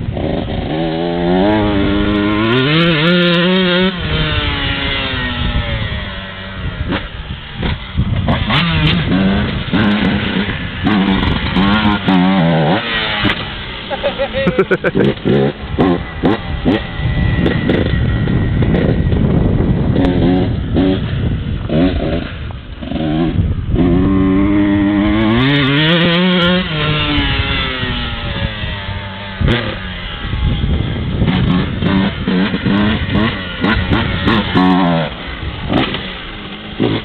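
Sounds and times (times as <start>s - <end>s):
motocross bike engine revving: 0.0s - 37.0s.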